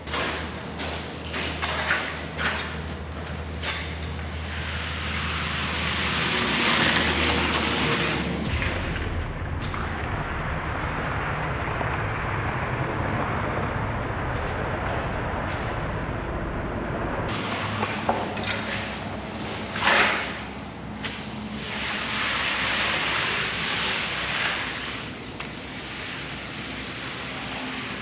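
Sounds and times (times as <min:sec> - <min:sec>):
rushing noise: 0:04.4 - 0:28.0.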